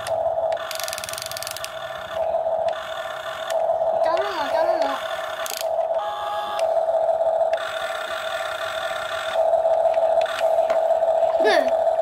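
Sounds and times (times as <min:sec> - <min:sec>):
toy excavator motors whining: 0:00.0 - 0:12.0.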